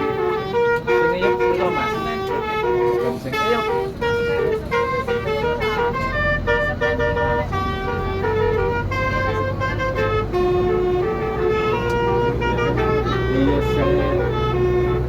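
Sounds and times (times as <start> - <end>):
bus engine drone: 0.0 - 15.0
musical air horn tune: 0.0 - 15.0.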